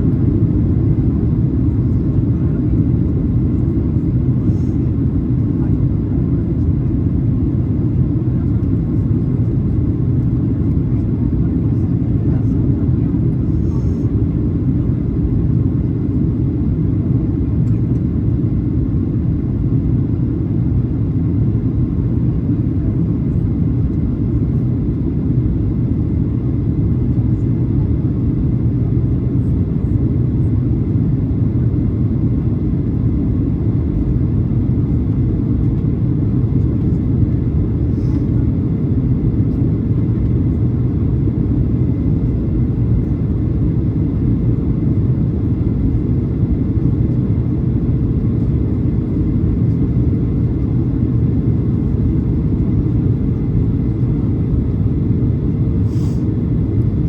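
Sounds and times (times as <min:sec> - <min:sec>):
jet engine rumble inside cabin: 0:00.0 - 0:57.0.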